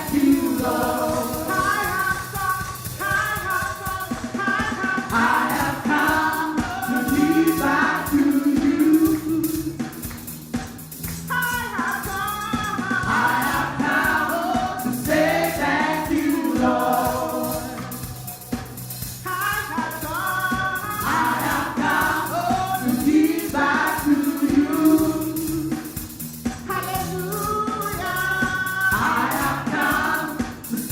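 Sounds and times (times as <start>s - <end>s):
band with bass and beat: 0.0s - 30.9s
choir singing gospel music: 0.0s - 30.9s.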